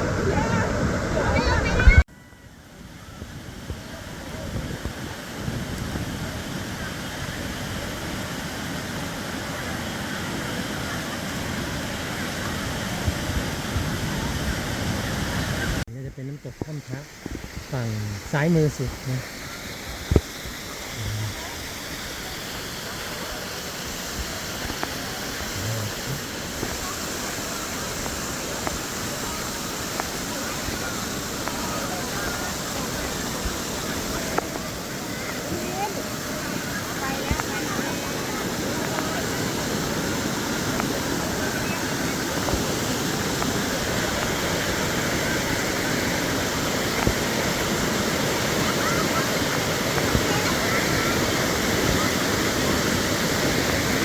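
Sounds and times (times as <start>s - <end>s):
waterfall rushing over rock: 0.0s - 2.0s, 2.7s - 54.0s.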